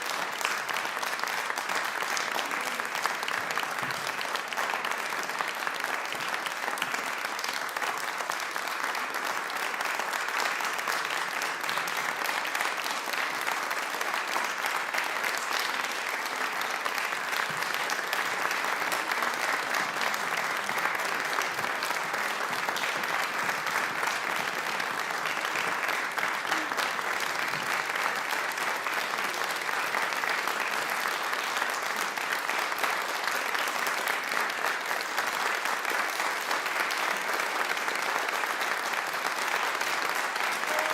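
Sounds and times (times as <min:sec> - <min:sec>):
audience applauding: 0:00.0 - 0:40.9.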